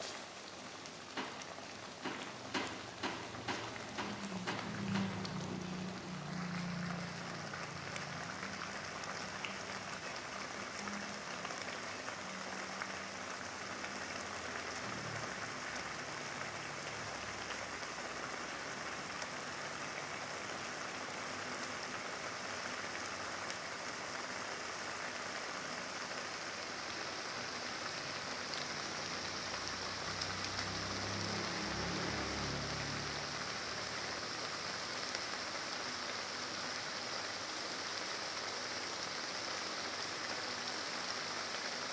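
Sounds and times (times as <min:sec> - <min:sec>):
food sizzling in oil: 0:00.0 - 0:41.9.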